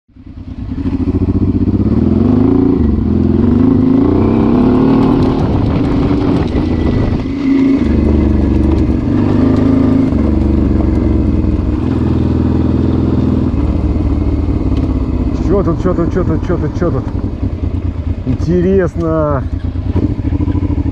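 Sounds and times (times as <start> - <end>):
motorcycle engine revving: 0.1 - 20.9.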